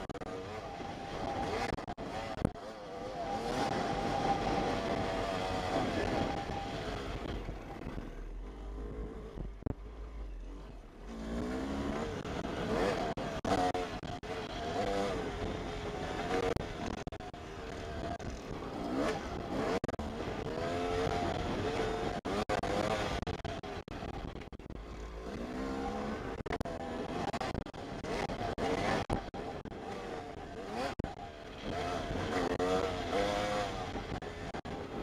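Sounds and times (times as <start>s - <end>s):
two-stroke dirt bike revving: 0.0s - 7.8s, 11.0s - 35.0s.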